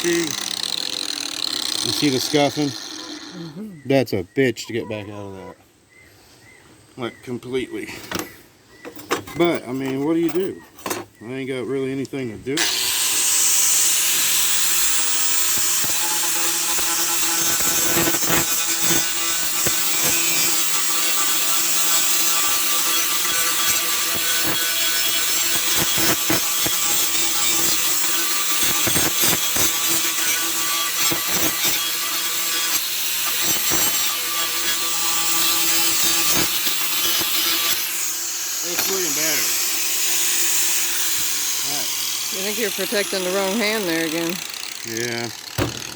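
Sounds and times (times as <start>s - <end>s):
blade scraping on grinder: 0.0s - 3.6s, 12.6s - 45.9s
grinder grinding steel: 0.0s - 3.6s, 12.6s - 45.9s.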